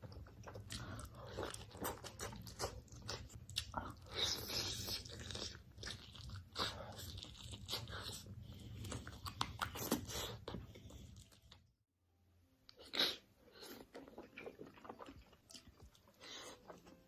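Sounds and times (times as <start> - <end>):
crunchy chewing of food: 0.0 - 11.7, 12.8 - 17.0.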